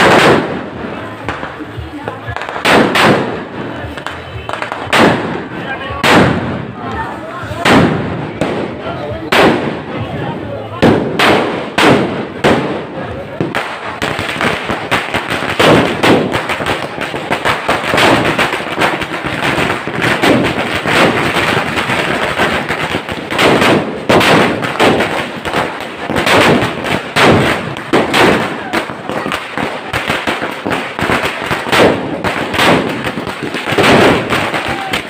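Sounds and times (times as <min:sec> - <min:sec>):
crowd voices: 0:00.0 - 0:35.0
firecrackers bursting: 0:00.0 - 0:35.0.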